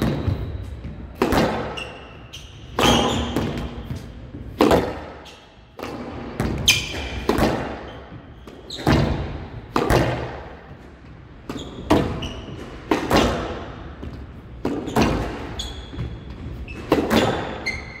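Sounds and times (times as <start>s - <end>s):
squash ball smacks echoing: 0.0s - 5.2s, 5.8s - 10.8s, 11.4s - 16.1s, 16.8s - 17.6s
shoes squeaking on court floor: 0.0s - 18.0s.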